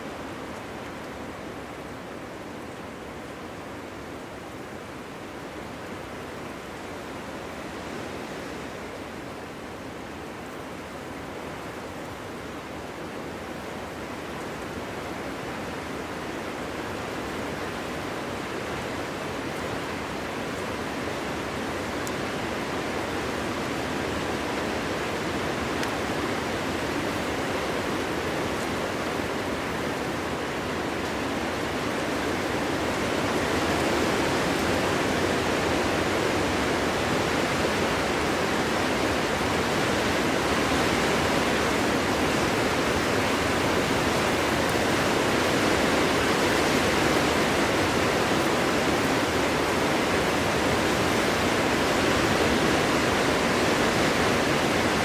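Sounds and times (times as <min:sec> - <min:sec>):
strong wind through forest: 0:00.0 - 0:55.0.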